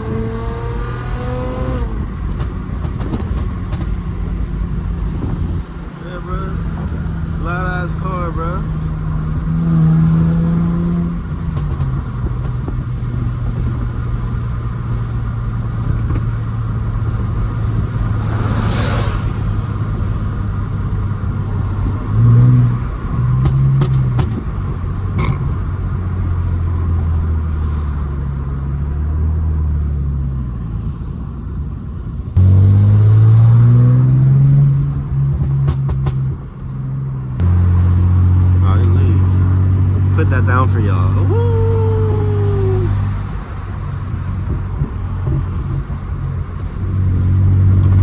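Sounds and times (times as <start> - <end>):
car exhaust droning and revving: 0.0 - 48.0.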